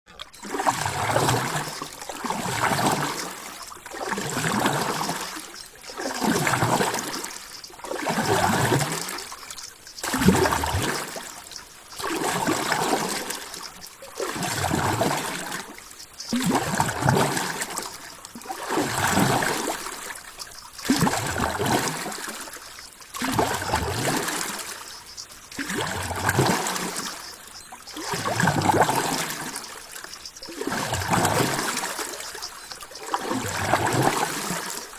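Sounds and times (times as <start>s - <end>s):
water sloshing and trickling: 0.1s - 34.9s.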